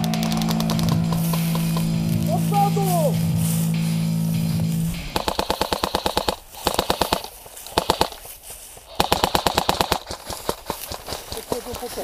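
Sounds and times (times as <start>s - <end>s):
airsoft rifles firing rapidly: 0.0s - 3.1s, 5.0s - 12.0s.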